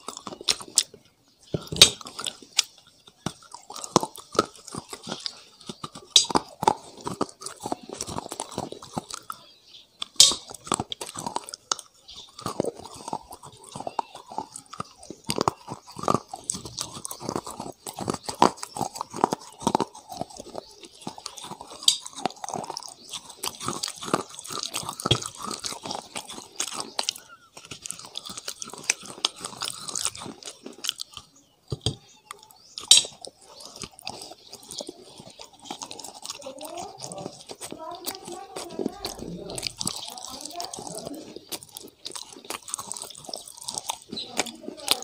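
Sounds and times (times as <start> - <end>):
person chewing crunchy food: 0.0 - 45.0.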